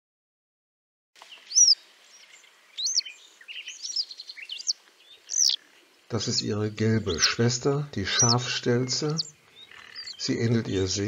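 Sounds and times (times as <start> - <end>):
faint background hiss: 1.2 - 11.0
soft bird twittering: 1.2 - 11.0
wagtail calling: 1.2 - 11.0.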